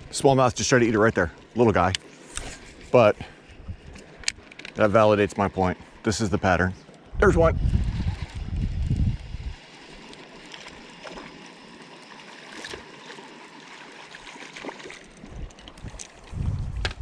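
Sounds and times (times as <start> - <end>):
water lapping against hull: 0.0 - 17.0.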